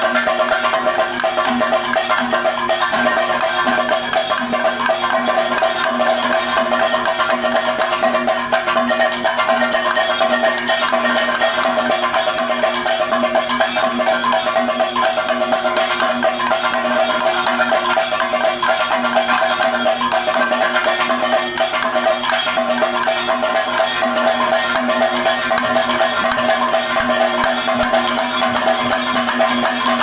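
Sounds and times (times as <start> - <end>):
fast drumming: 0.0 - 30.0
gong and hand cymbals ringing: 0.0 - 30.0.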